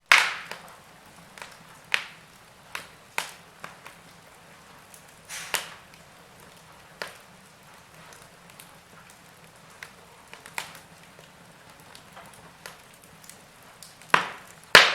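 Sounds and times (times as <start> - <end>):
low steady hiss: 0.0 - 14.9
wood fire crackling: 0.0 - 14.9.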